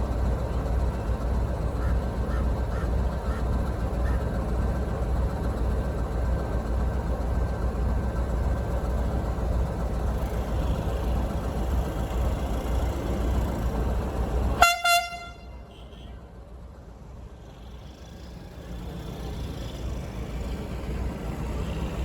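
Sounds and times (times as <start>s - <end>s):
locomotive engine rumbling: 0.0s - 22.0s.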